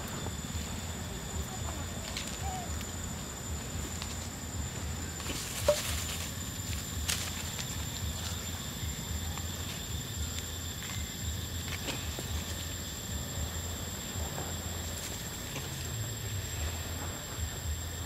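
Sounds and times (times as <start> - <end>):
faint ticks and rustles: 0.0 - 18.0.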